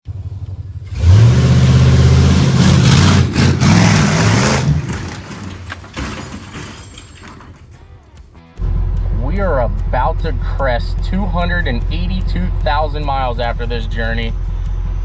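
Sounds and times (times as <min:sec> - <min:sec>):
diesel truck engine revving: 0:00.0 - 0:06.7, 0:08.6 - 0:15.0.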